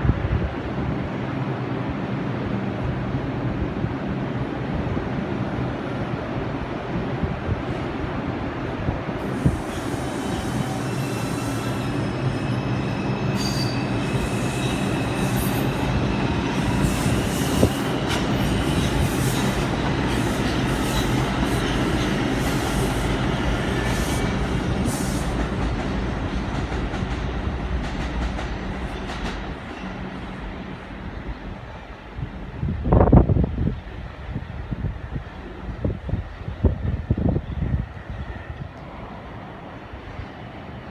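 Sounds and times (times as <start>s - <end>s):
subway train rumbling: 0.0s - 40.9s.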